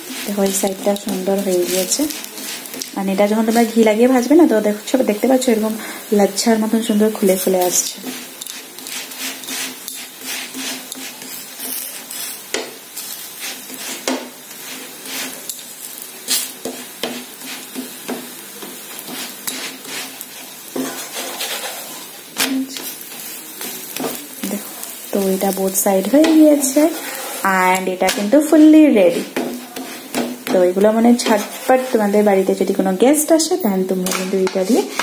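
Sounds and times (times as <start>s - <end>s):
flatbread sizzling in a pan: 0.0s - 35.0s.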